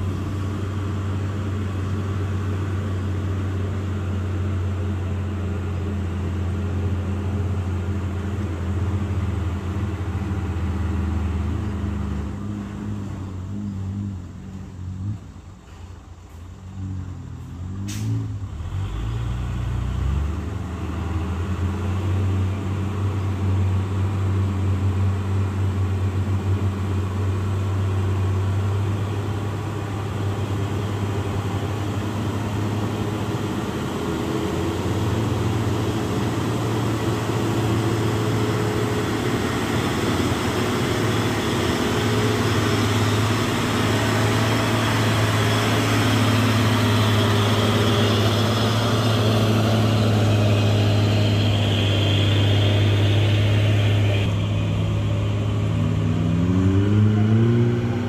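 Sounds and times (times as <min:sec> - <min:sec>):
truck diesel engine working hard: 0:00.0 - 0:58.0.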